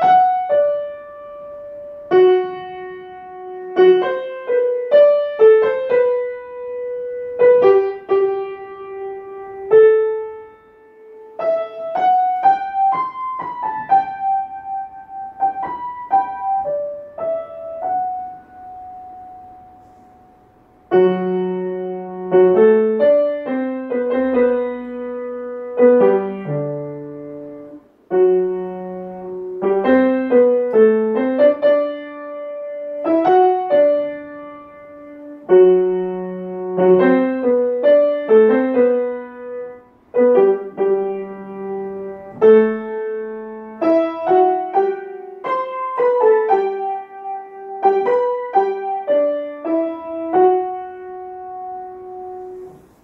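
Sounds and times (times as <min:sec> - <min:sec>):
solo grand piano piece: 0:00.0 - 0:53.0.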